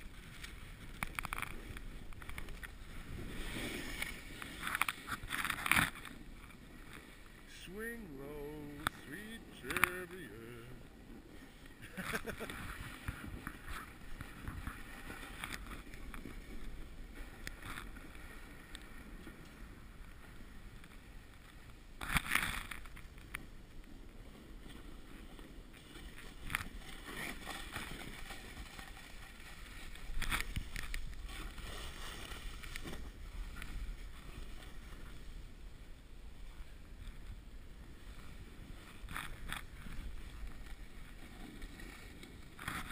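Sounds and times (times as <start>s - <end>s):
snowboard scraping snow: 0.0s - 42.9s.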